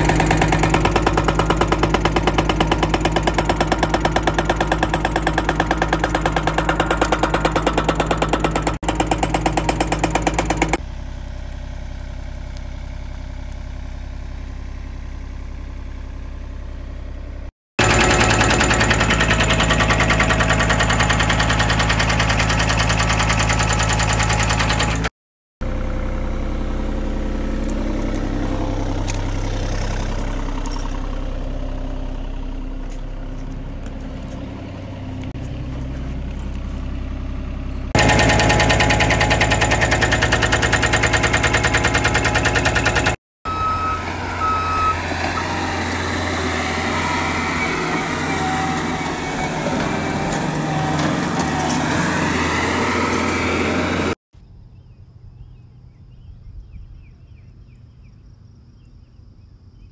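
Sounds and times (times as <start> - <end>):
diesel engine chugging: 0.0 - 54.2.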